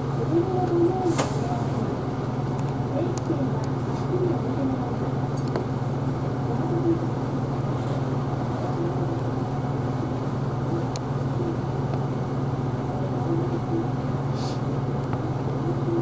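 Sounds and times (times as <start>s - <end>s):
bus engine hum: 0.0s - 16.0s.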